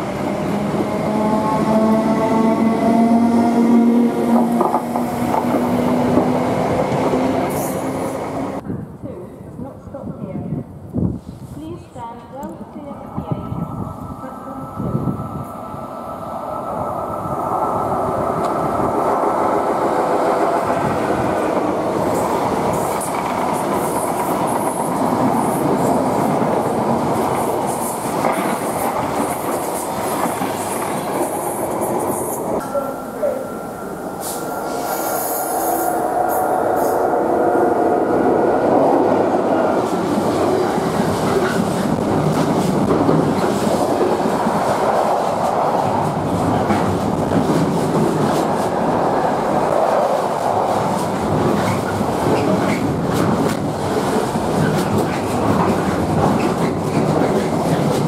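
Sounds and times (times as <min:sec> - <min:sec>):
trains rumbling past: 0:00.0 - 0:08.6, 0:11.8 - 0:58.0.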